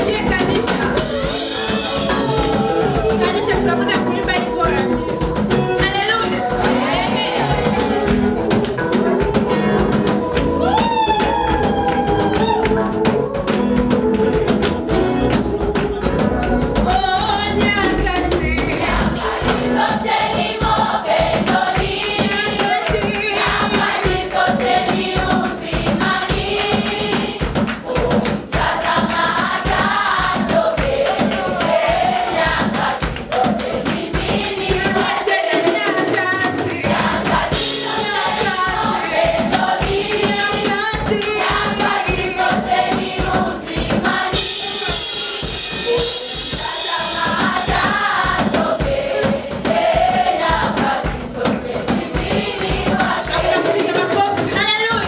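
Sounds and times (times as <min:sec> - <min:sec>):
choir singing praise song: 0:00.0 - 0:55.0
instrumental accompaniment with beat: 0:00.0 - 0:55.0.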